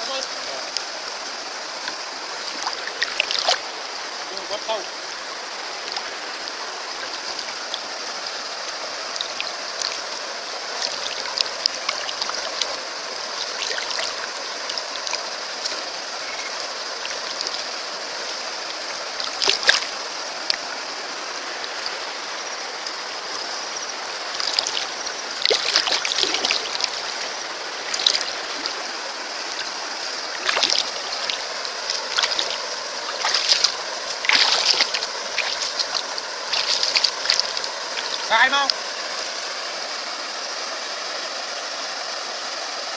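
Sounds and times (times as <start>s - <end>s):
water running: 0.0s - 38.8s
water splashing: 0.0s - 41.8s.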